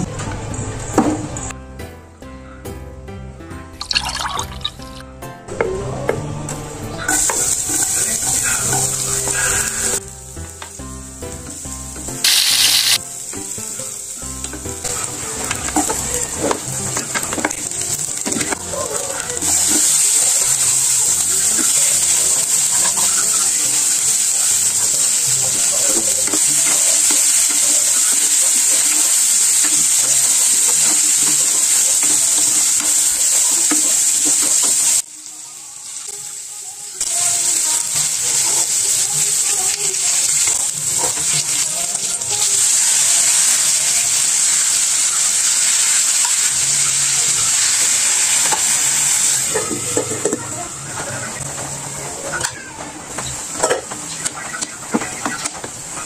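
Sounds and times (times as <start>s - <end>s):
vegetables sizzling in hot oil: 7.1s - 56.0s.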